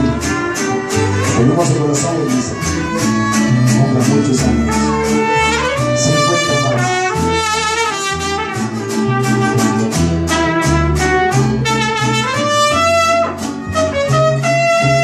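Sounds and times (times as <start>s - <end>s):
bass guitar notes: 0.0s - 15.0s
strummed guitars: 0.0s - 15.0s
trumpet: 0.0s - 15.0s
violins: 0.0s - 15.0s.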